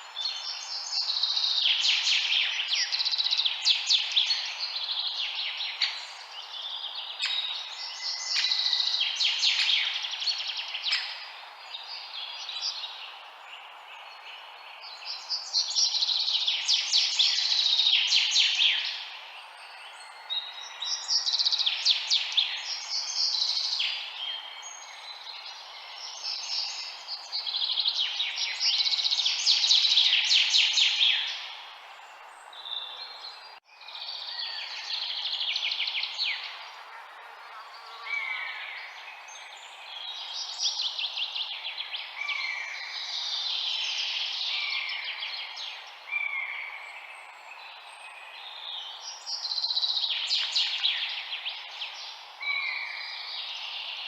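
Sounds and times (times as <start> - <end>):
background hiss: 0.0 - 54.0
songbirds chirping and singing: 0.0 - 54.0.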